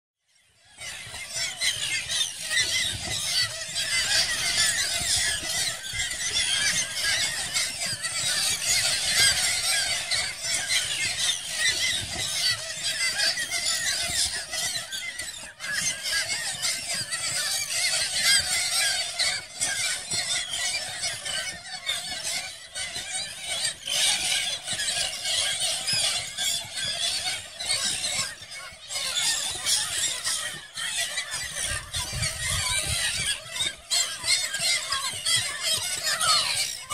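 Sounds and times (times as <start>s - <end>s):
flock of terns calling: 0.3s - 36.9s.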